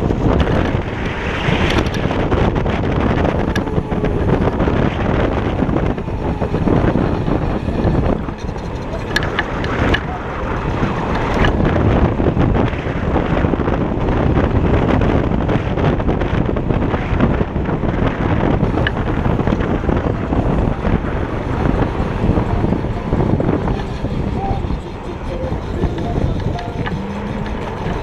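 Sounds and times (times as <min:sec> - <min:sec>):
tyre and road rumble: 0:00.0 - 0:28.0
wind buffeting microphone: 0:00.0 - 0:28.0.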